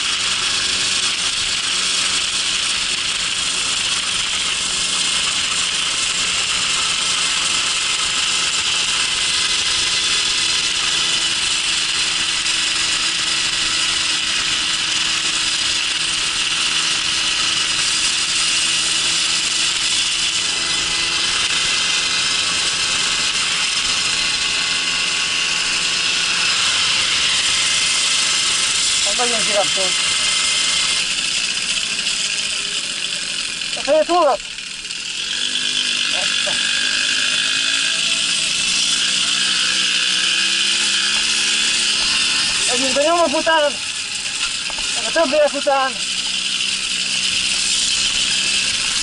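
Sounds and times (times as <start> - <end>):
moped engine buzzing: 0.0 - 49.0.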